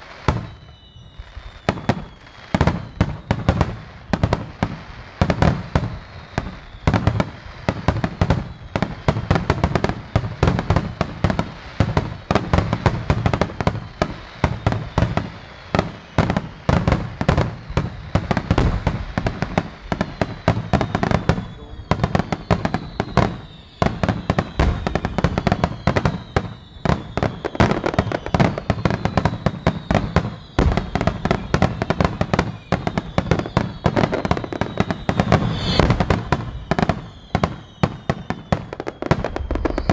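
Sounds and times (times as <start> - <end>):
fireworks shells bursting with booms: 0.0 - 39.9
fireworks whistling: 0.0 - 39.9.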